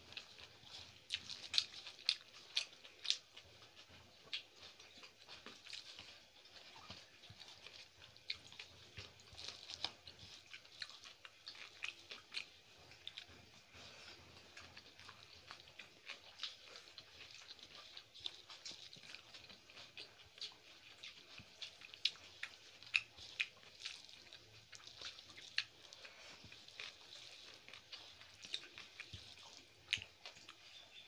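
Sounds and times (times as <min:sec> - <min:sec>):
chewing and lip smacks: 0:00.0 - 0:31.0
fingers squishing rice: 0:00.0 - 0:31.0.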